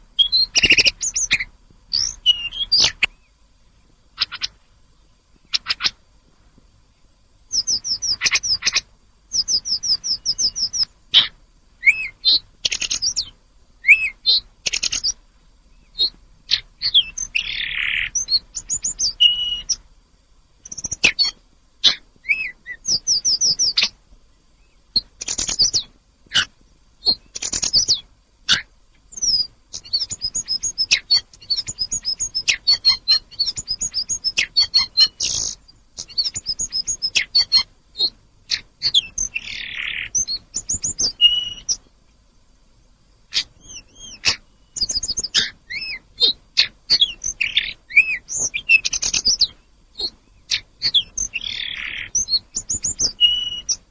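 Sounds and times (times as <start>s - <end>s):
songbird chirps and trills: 0.0s - 53.9s.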